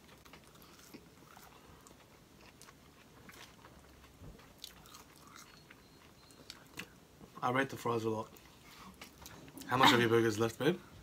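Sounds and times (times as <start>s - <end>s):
faint chewing of fries: 0.0s - 7.4s, 8.2s - 10.1s.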